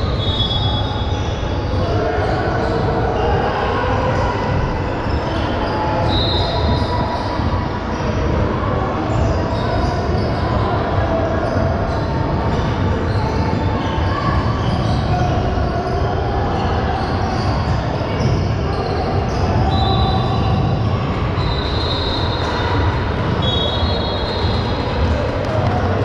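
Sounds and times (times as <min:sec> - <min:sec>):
crowd hubbub: 0:00.0 - 0:26.0.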